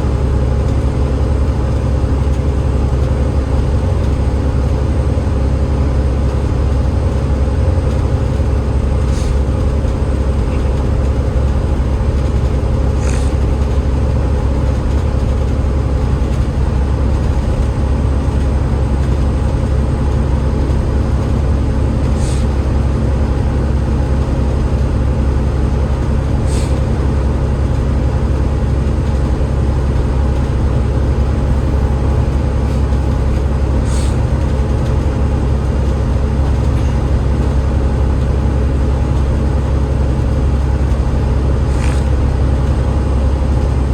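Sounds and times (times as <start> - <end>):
bus diesel engine droning: 0.0 - 43.9
road noise: 0.0 - 43.9.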